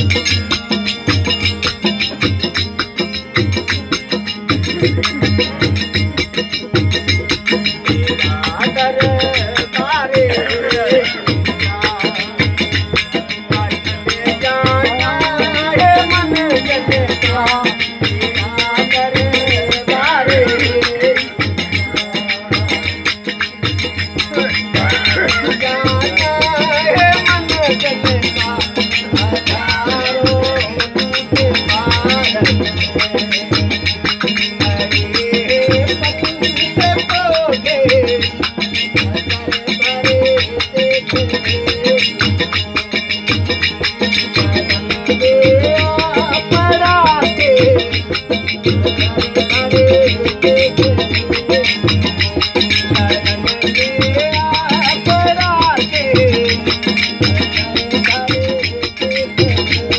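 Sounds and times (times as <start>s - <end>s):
rattling percussion beat: 0.0s - 59.9s
wavering melody line: 0.0s - 59.9s.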